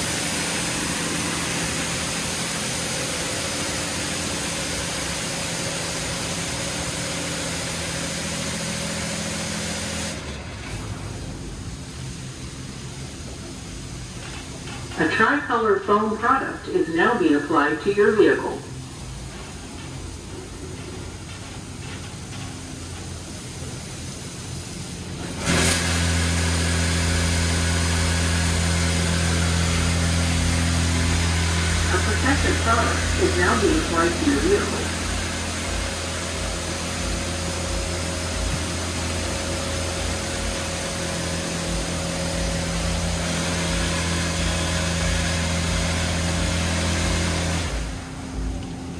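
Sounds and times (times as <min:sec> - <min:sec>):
high-pressure water spray: 0:00.0 - 0:14.8, 0:22.6 - 0:48.4
pump motors humming: 0:00.0 - 0:48.9.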